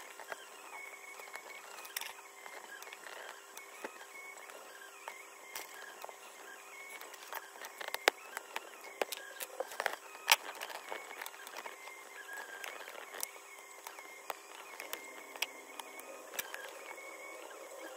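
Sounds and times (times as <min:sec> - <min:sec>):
plastic pick clicking and scraping: 0:00.0 - 0:17.9.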